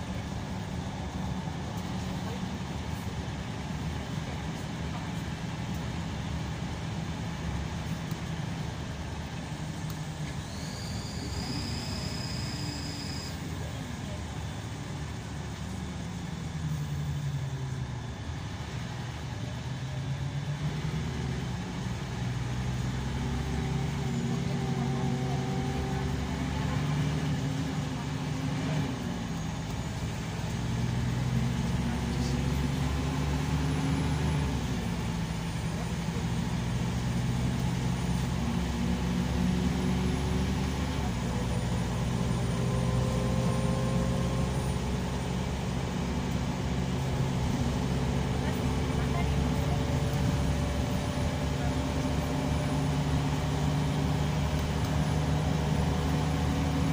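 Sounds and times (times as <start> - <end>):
bus diesel engine: 0.0 - 56.9
road noise: 0.0 - 56.9.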